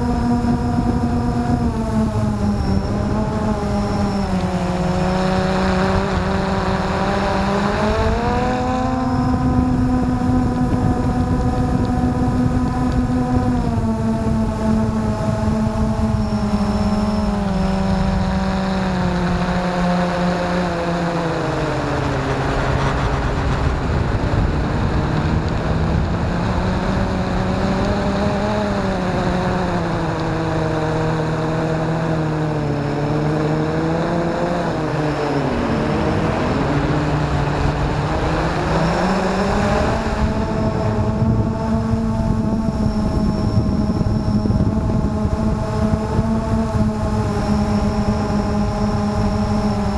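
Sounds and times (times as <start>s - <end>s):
quadcopter motors whining: 0.0s - 49.9s
wind noise: 0.0s - 49.9s.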